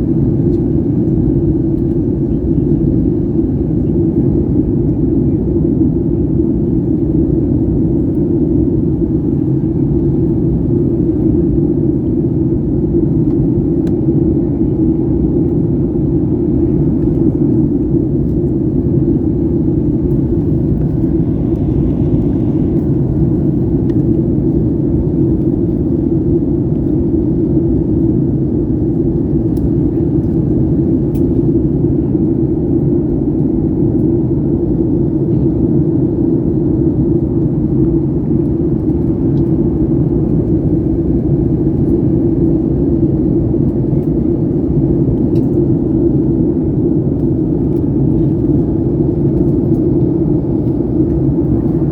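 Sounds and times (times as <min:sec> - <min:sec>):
airflow over fuselage: 0:00.0 - 0:51.9
jet engine cabin rumble: 0:00.0 - 0:51.9.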